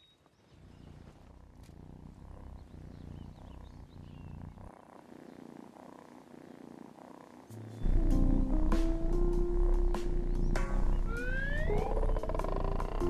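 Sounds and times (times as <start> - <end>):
cat purring: 0.4 - 13.0.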